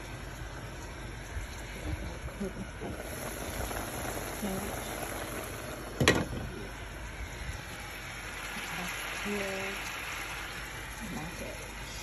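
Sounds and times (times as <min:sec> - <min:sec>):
water boiling in pot: 0:00.0 - 0:12.0.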